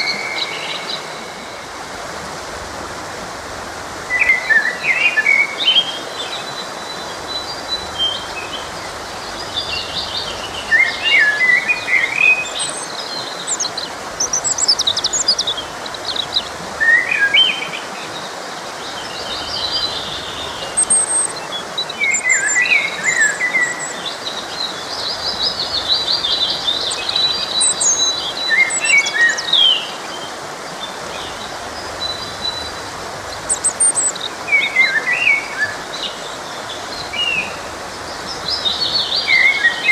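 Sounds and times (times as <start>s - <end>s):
forest stream rushing: 0.0s - 39.9s
songbirds chirping: 0.0s - 39.9s.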